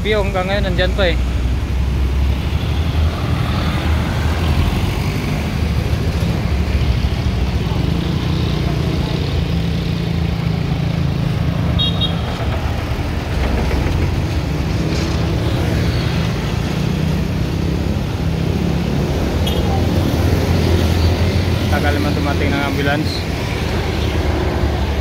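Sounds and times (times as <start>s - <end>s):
car engines passing: 0.0s - 25.0s
tyres rumbling on road: 0.0s - 25.0s
motorcycle engines passing: 0.8s - 25.0s.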